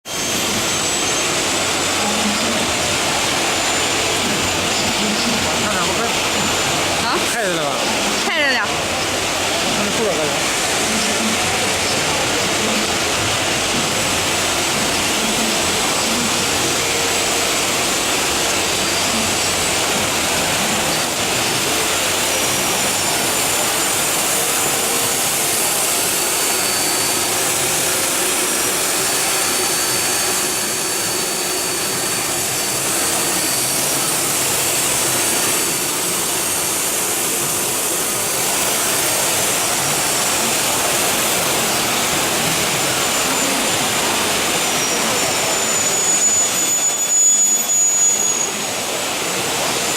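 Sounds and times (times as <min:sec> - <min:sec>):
machining center hiss and whine: 0:00.1 - 0:49.9.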